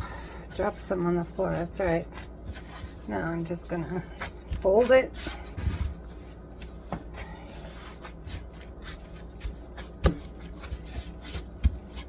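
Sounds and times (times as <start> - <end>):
hands rubbing dough: 0.0 - 12.0.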